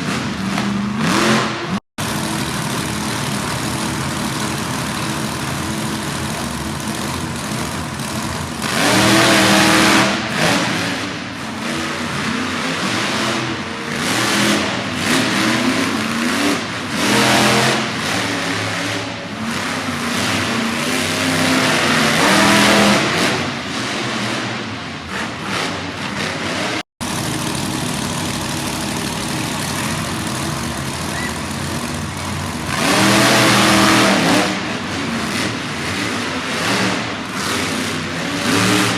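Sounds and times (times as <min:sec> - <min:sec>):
monster truck engines revving: 0:00.0 - 0:38.9.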